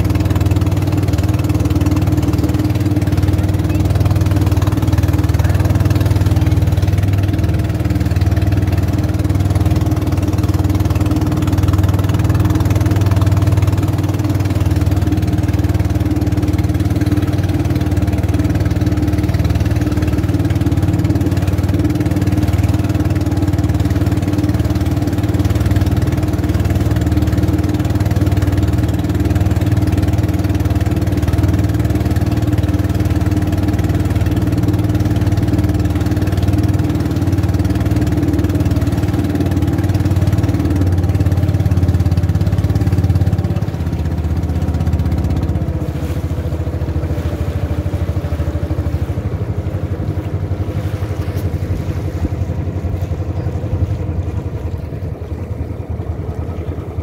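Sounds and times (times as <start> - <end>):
boat engine humming: 0.0 - 57.0.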